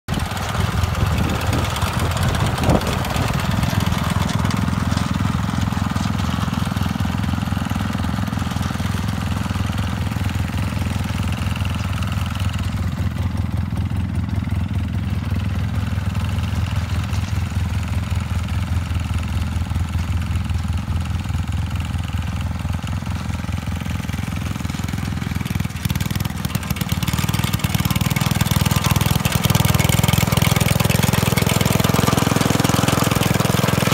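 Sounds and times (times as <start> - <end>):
walk-behind mower running: 0.1 - 33.9.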